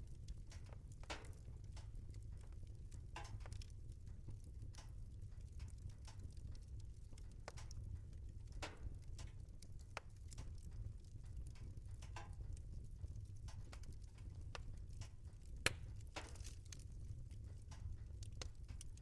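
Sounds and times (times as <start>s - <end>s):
low steady rumble: 0.0s - 19.0s
wood fire crackling: 0.0s - 19.0s.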